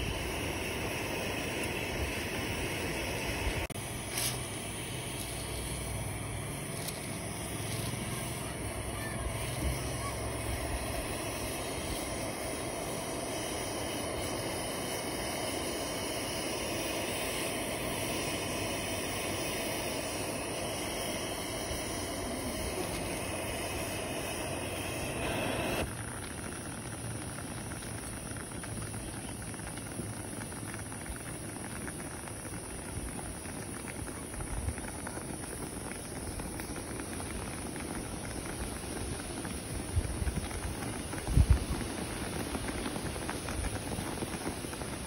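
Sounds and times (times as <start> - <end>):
pressure stove burner rushing: 0.0 - 45.0.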